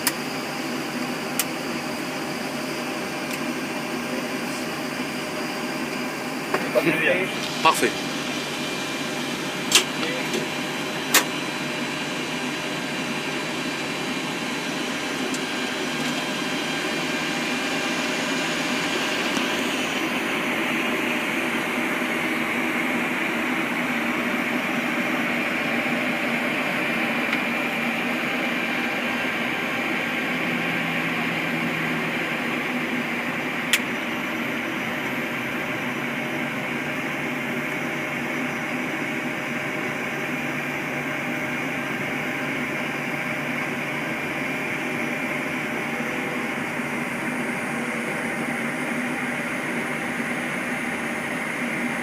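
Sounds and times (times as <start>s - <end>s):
cockpit air-conditioning airflow: 0.0s - 52.0s
jet engines idling: 0.0s - 52.0s.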